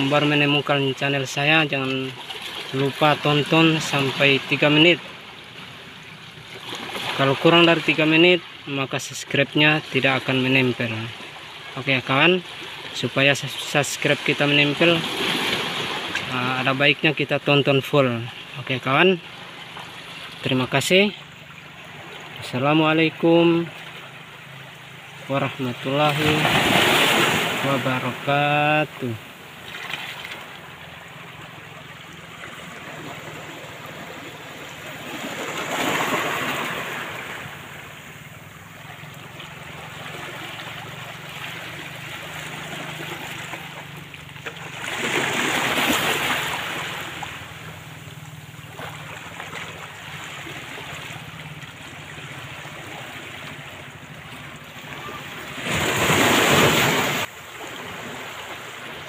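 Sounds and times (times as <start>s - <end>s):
sea waves on rocky shore: 0.0s - 59.0s
waves breaking: 0.0s - 59.0s.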